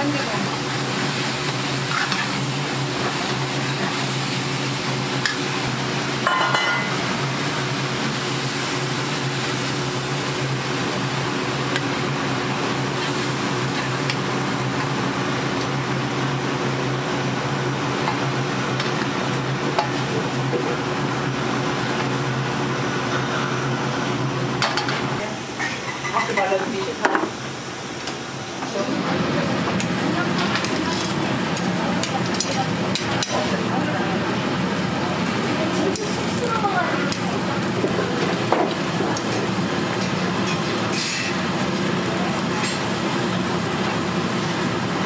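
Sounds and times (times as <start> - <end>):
food sizzling: 0.0 - 27.6, 29.0 - 45.0.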